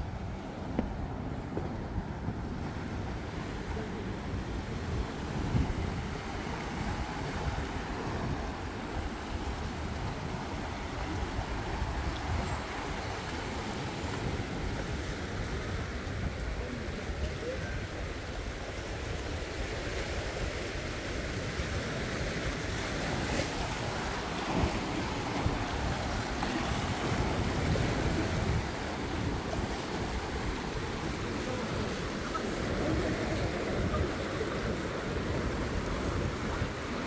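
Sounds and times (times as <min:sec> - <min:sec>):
sea surf: 0:00.0 - 0:37.0
wind buffeting microphone: 0:00.0 - 0:37.0.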